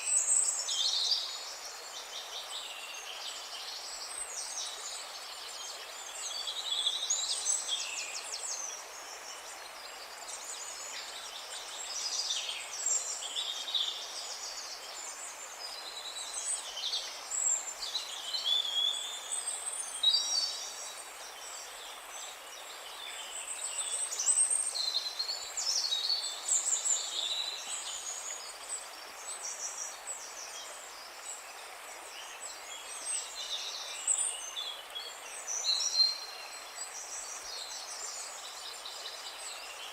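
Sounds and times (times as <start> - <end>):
background hiss: 0.0 - 39.9
many small birds chirping: 0.0 - 39.9.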